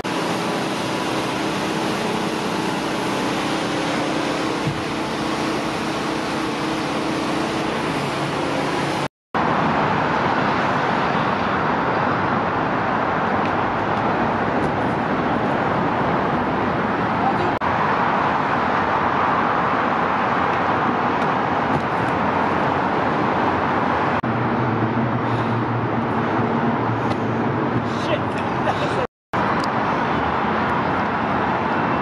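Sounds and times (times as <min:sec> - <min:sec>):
road traffic roar: 0:00.0 - 0:32.0.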